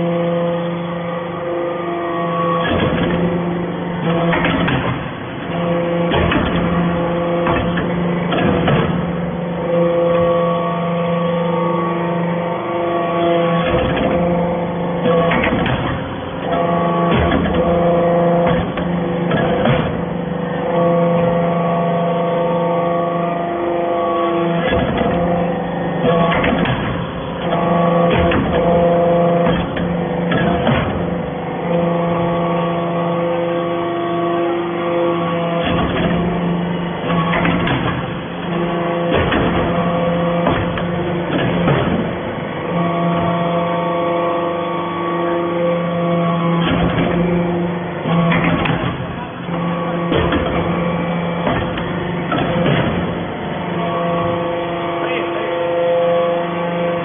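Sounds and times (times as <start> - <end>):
baler machine hum: 0.0 - 57.0
sharp machine clunks: 2.1 - 11.7, 13.1 - 22.2, 23.7 - 33.4, 34.7 - 43.7, 45.7 - 57.0.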